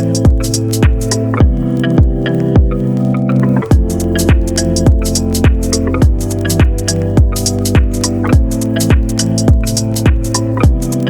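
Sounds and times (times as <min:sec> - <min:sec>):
sustained synth chords: 0:00.0 - 0:11.0
kick drum beat: 0:00.2 - 0:02.8, 0:03.7 - 0:11.0.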